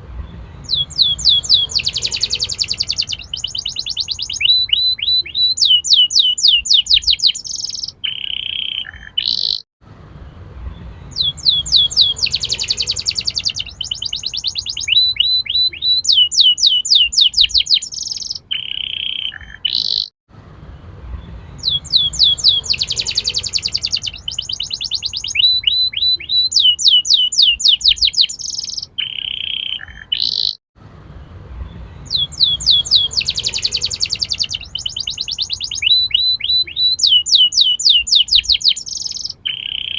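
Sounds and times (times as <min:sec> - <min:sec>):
canary singing trills: 0:00.2 - 0:09.7, 0:10.7 - 0:20.1, 0:21.2 - 0:30.6, 0:31.7 - 0:39.9.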